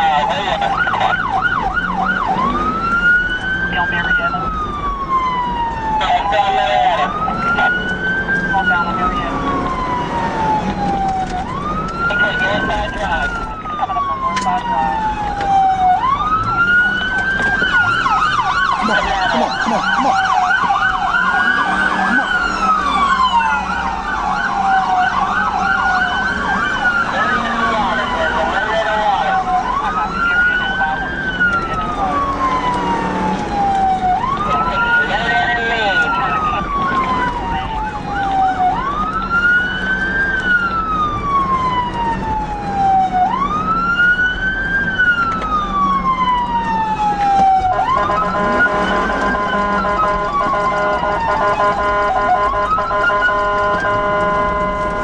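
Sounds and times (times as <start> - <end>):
engine and road noise: 0.0 - 55.0
police siren wailing: 0.0 - 55.0
police siren yelping: 0.0 - 55.0.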